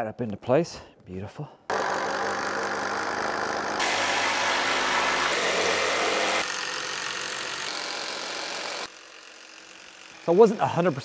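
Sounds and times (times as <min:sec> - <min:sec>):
cordless drill driving screws into wood: 0:01.7 - 0:11.0.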